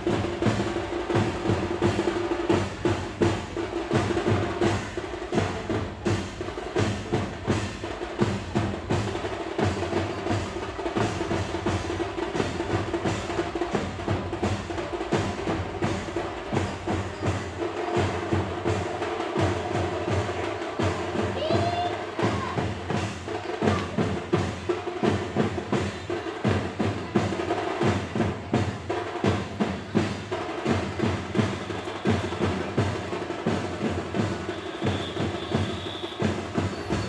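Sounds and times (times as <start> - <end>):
fast drumming: 0.0 - 37.0.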